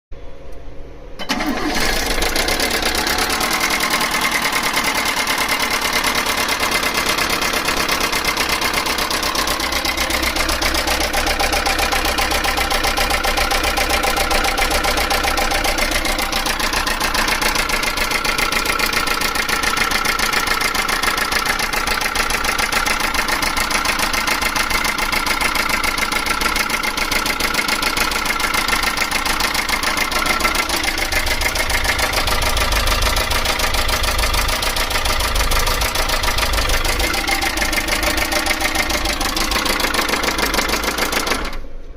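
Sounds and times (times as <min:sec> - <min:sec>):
truck engine running with rattle: 0:01.4 - 0:41.6.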